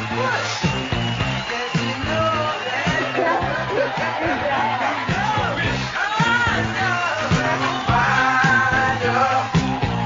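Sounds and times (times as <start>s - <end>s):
song with singing over a beat: 0.0s - 10.0s.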